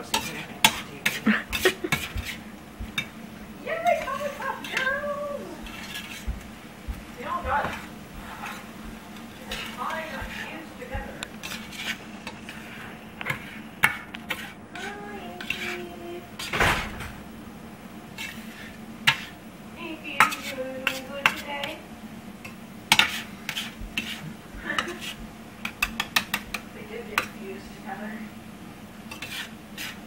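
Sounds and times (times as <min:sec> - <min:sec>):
spatula scraping frying pan: 0:00.0 - 0:16.6, 0:18.1 - 0:19.5, 0:20.2 - 0:21.8, 0:22.9 - 0:27.4, 0:29.1 - 0:30.0.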